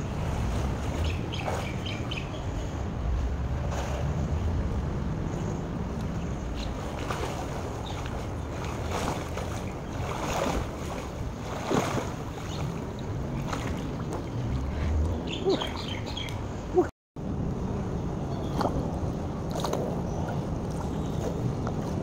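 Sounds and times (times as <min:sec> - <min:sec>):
pool water lapping and splashing: 0:00.0 - 0:16.9, 0:18.4 - 0:22.0
wind buffeting microphone: 0:00.0 - 0:22.0.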